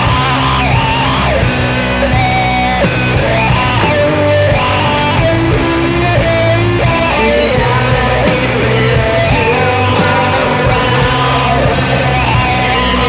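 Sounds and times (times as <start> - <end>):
distorted electric guitars: 0.0 - 13.0.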